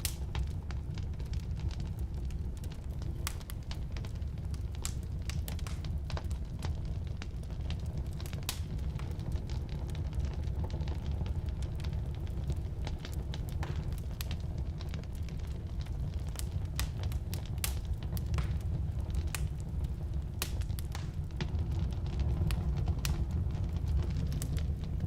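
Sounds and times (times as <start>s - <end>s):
fire rumbling: 0.0s - 25.0s
wood crackling and popping: 0.0s - 25.0s.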